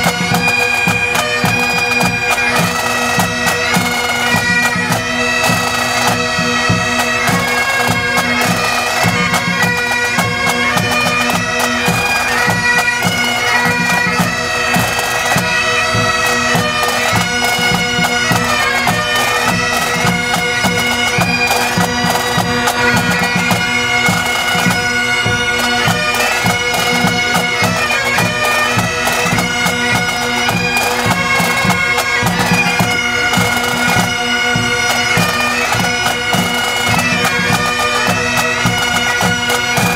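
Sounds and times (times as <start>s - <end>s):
bagpipes playing a tune: 0.0s - 39.9s
drums beating: 0.0s - 39.9s.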